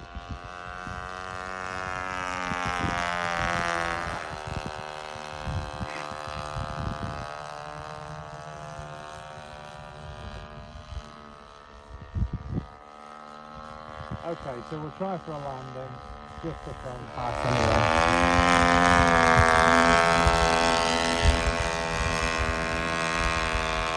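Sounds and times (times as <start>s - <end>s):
model plane engine running: 0.0s - 23.9s.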